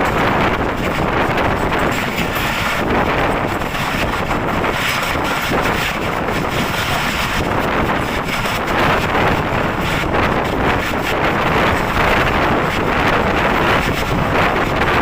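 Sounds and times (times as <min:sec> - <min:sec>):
train wheels rattling on rails: 0:00.0 - 0:15.0
wind buffeting microphone: 0:00.0 - 0:15.0.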